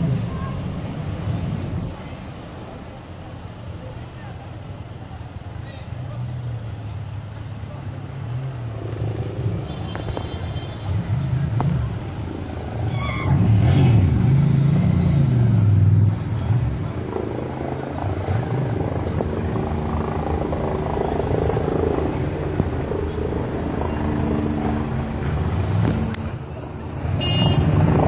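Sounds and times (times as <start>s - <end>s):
vehicle engines passing: 0.0s - 28.0s.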